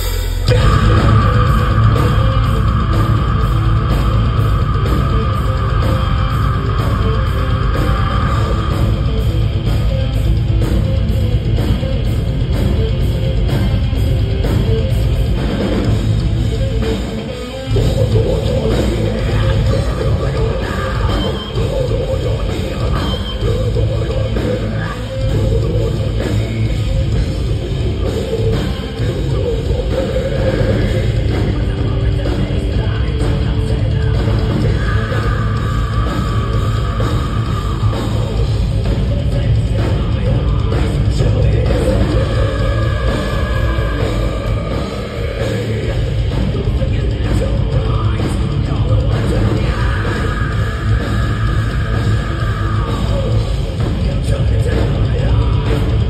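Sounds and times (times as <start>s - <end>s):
bass guitar: 0.0s - 56.0s
distorted electric guitars: 0.0s - 56.0s
drums: 0.0s - 56.0s.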